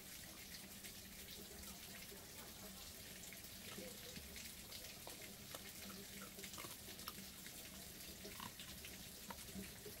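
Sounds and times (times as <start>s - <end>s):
water drips and splashes: 0.0s - 10.0s
water trickling: 0.0s - 10.0s.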